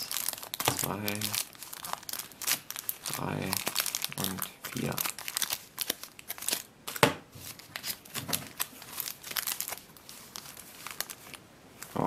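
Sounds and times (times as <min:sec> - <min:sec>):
foil packs crinkling: 0:00.0 - 0:12.0
wrapper being torn open: 0:00.0 - 0:12.0.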